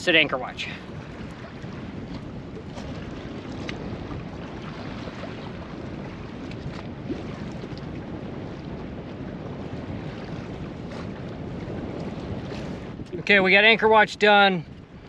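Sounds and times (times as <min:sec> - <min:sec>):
small waves lapping against hull: 0:00.0 - 0:15.0
wind rushing over microphone: 0:00.0 - 0:15.0.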